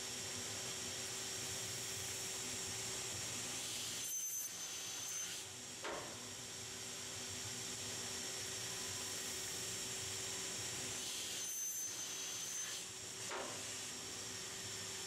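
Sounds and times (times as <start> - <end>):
saw machine hiss and hum: 0.0 - 15.0.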